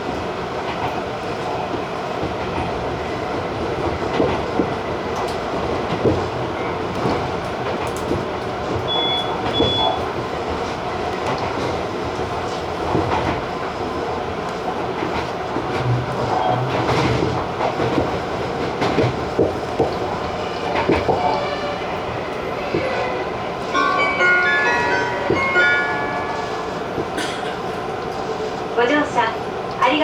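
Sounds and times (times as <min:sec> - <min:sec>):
train rumbling on track: 0:00.0 - 0:30.0.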